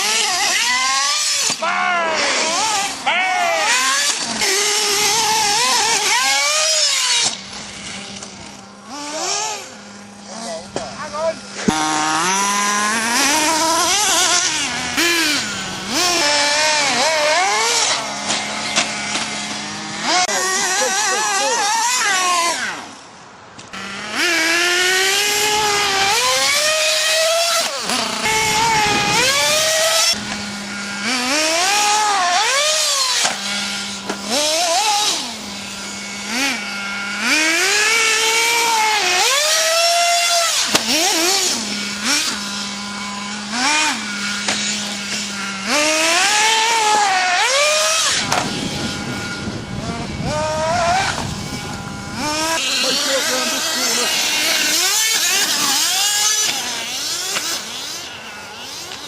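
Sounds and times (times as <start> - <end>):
rc car engines revving: 0.0 - 59.0.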